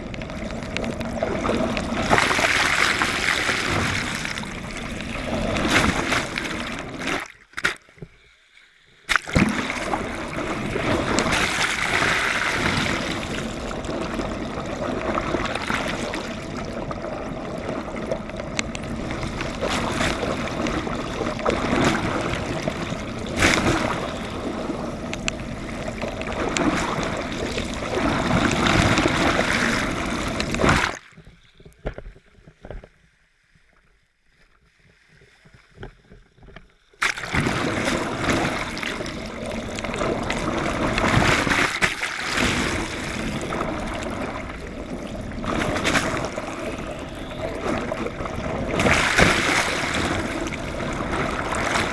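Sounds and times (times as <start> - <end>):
muffled underwater water rushing: 0.0 - 51.9.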